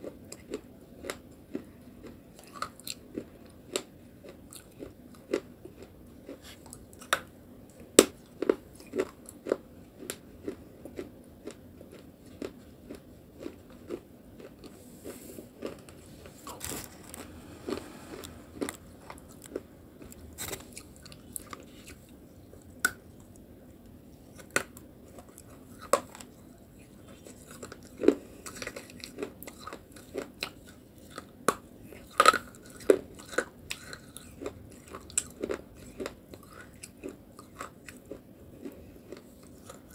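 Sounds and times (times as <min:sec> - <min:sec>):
person chewing dry clay crunches: 0:00.0 - 0:39.9.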